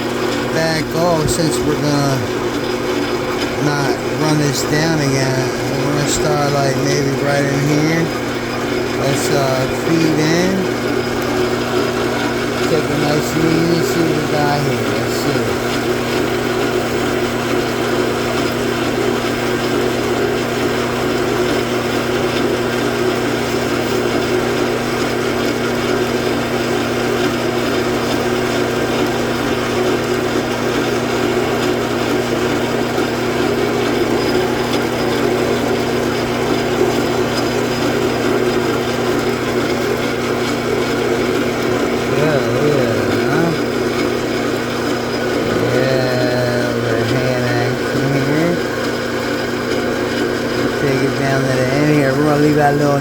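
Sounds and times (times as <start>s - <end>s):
metal lathe running: 0.0s - 53.0s.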